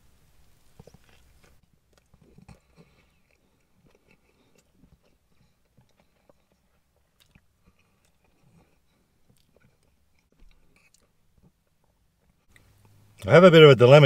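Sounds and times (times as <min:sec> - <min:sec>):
faint chewing: 0:00.4 - 0:13.3.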